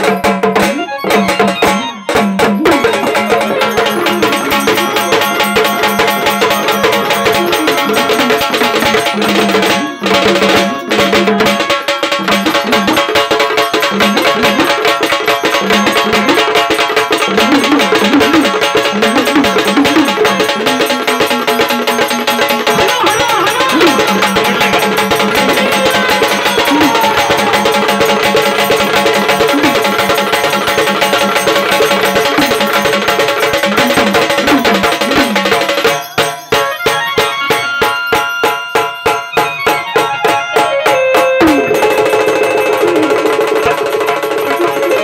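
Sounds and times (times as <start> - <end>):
held melody instrument tones: 0.0 - 45.0.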